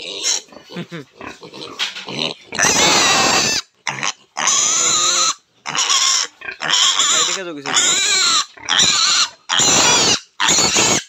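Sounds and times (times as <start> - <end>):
piglet grunting: 0.0 - 11.0
piglet squealing: 1.3 - 11.0.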